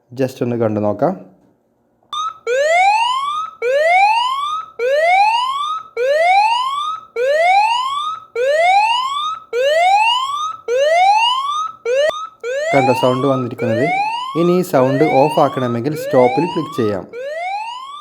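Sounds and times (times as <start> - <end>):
phone alarm rising whoop: 2.2 - 18.0.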